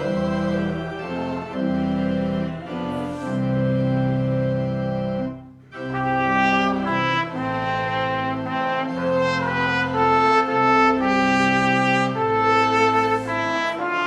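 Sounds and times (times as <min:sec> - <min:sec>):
brass-like church music chords: 0:00.0 - 0:14.0.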